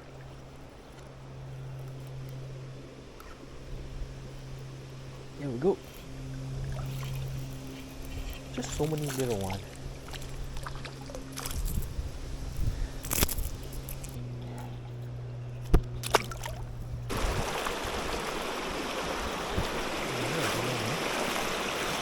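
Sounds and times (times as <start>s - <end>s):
river water flowing: 0.0s - 12.4s, 16.0s - 22.0s
low hum: 0.0s - 22.0s.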